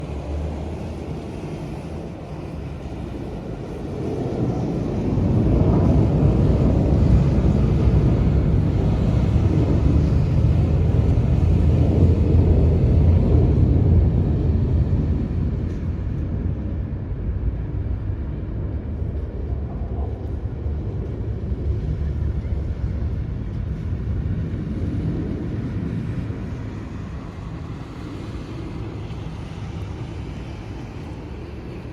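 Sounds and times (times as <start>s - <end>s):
fighter jets rumbling overhead: 0.0s - 31.9s.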